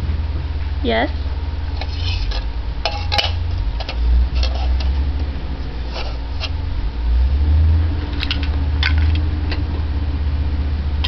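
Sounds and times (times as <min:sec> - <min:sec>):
garbage truck engine rumble: 0:00.0 - 0:11.0
steady hum: 0:00.0 - 0:11.0.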